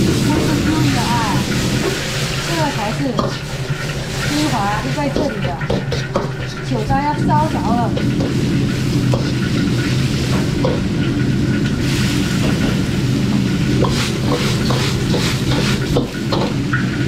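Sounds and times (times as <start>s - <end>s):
ladle scraping wok: 0.0s - 17.0s
sauce sizzling: 0.0s - 17.0s.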